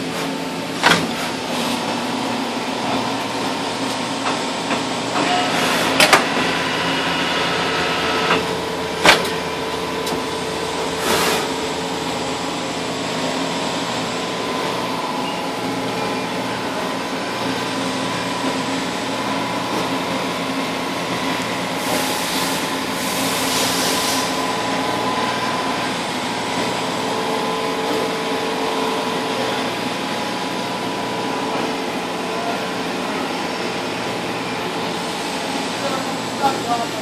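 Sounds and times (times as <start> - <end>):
lathe humming and whining: 0.0 - 37.0.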